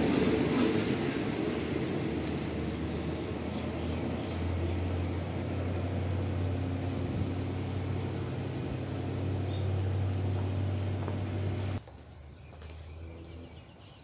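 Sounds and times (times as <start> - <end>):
diesel train engine drone: 0.0 - 11.8.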